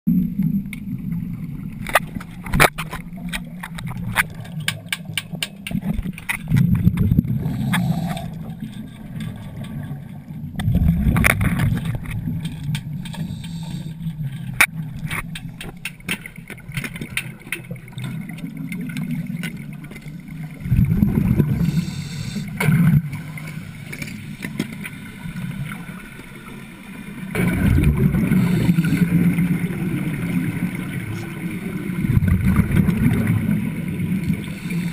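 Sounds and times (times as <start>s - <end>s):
low underwater rumble: 0.1s - 24.4s, 27.2s - 34.9s.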